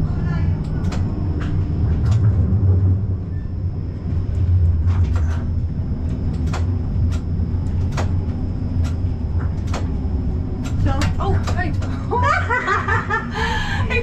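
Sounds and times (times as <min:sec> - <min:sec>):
tram hum and rumble: 0:00.0 - 0:14.0.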